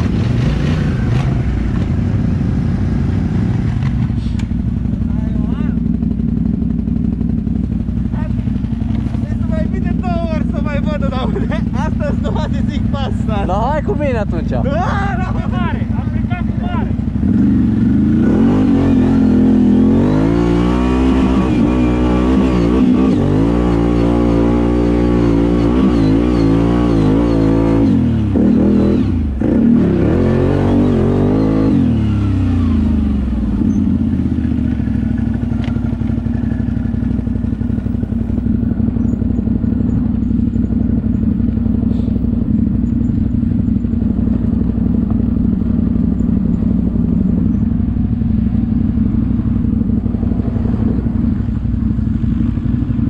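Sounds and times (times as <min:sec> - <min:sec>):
atv engine revving and idling: 0:00.0 - 0:53.0.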